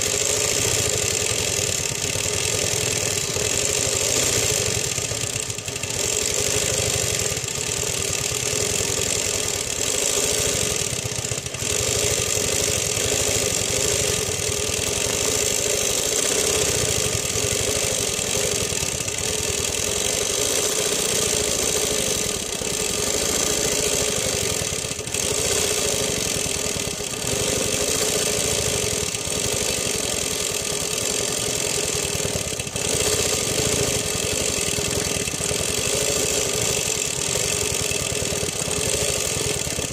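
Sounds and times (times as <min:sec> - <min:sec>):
quilting machine stitching: 0:00.0 - 0:39.9.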